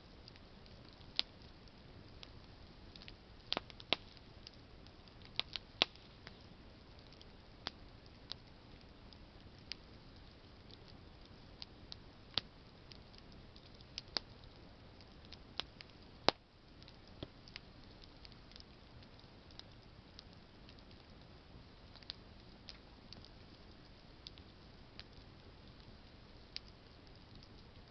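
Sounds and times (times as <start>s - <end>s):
campfire crackling and popping: 0.0s - 27.9s
low steady hiss: 0.0s - 27.9s.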